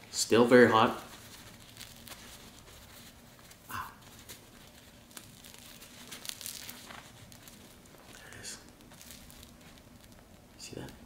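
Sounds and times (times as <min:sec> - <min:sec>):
bread crust crackling as torn: 0:00.9 - 0:11.0.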